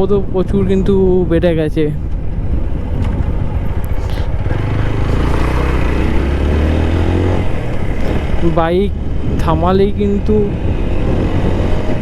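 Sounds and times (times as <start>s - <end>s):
road noise: 0.0s - 12.0s
motorcycle engine: 2.0s - 12.0s.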